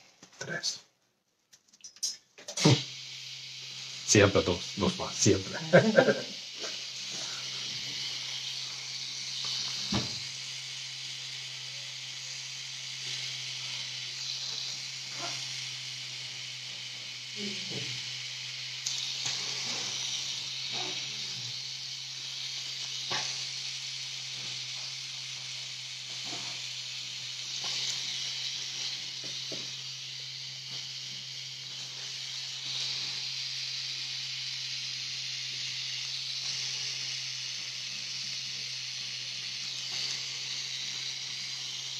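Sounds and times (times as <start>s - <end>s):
tattoo machine humming: 2.0s - 41.9s.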